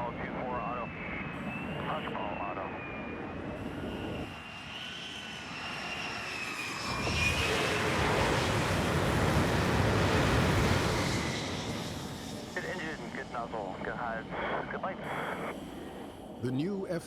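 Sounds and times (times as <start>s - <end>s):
jet engine whining: 0.0s - 17.0s.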